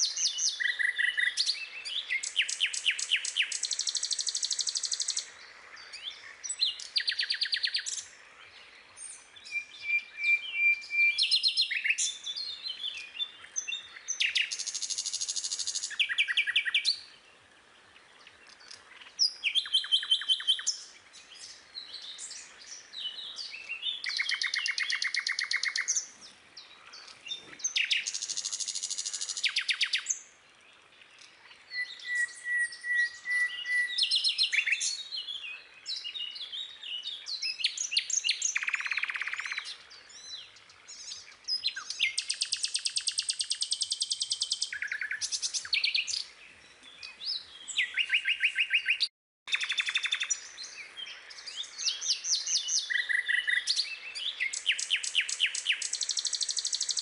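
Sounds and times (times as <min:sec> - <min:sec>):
songbirds singing and trilling: 0:00.0 - 0:57.0.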